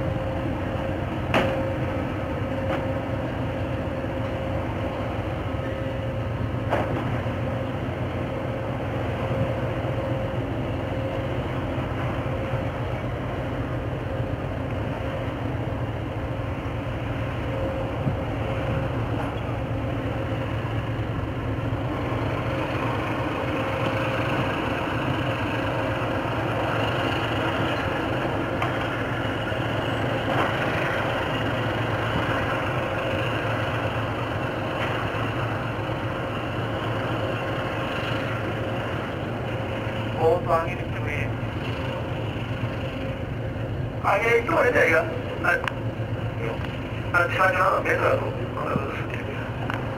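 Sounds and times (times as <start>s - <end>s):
diesel engines droning: 0.0s - 49.9s
faint constant whine: 0.0s - 49.9s.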